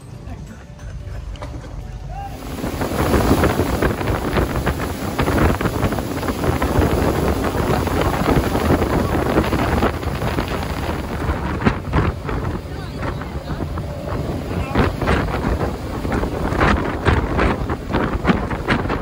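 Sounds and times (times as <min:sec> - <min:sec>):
outboard motor running: 0:01.7 - 0:19.0
water rushing past hull: 0:02.2 - 0:19.0
wind buffeting microphone: 0:02.3 - 0:19.0.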